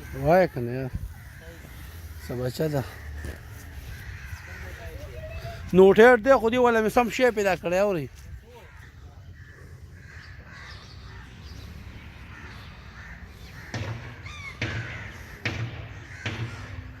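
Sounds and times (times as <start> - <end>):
birds harsh calls: 0.0 - 17.0.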